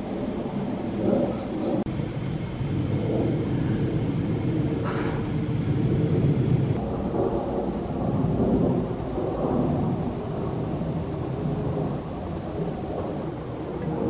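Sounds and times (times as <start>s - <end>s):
jet airliner engines rumbling overhead: 0.0s - 14.0s.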